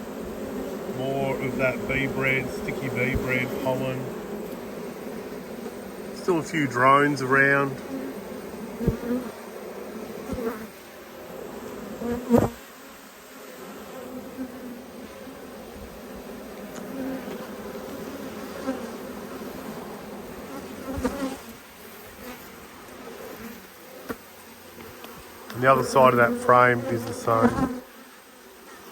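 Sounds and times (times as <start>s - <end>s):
bees buzzing: 0.0s - 28.9s.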